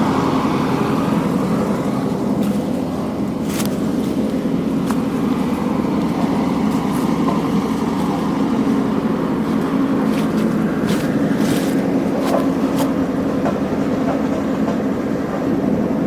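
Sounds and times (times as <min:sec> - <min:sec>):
diesel machinery engine rumble: 0:00.0 - 0:16.0.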